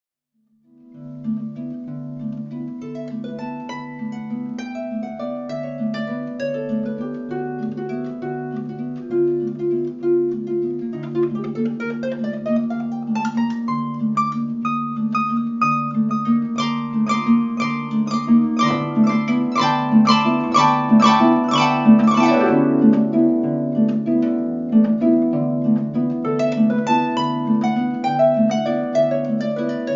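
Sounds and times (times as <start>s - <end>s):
harp playing: 0.7s - 29.9s.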